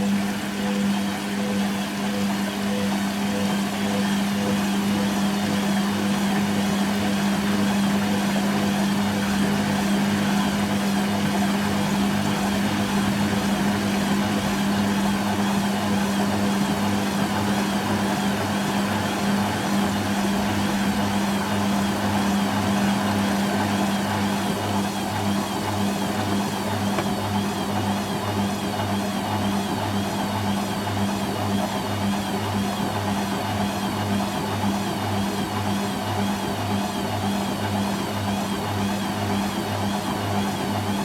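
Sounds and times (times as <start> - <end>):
washing machine running: 0.0 - 41.0.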